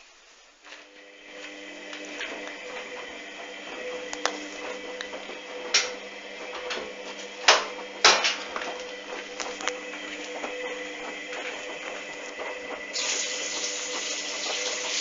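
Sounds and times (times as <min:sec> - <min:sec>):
washing machine motor hum: 0:00.0 - 0:15.0
washing machine drum turning: 0:01.9 - 0:15.0.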